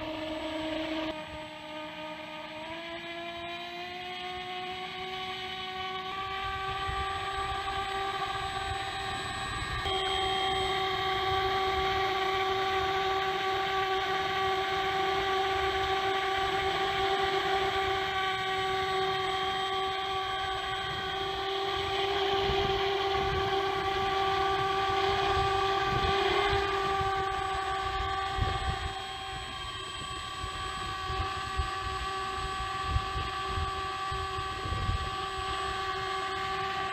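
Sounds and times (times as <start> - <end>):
model plane motor whining: 0.0 - 36.9.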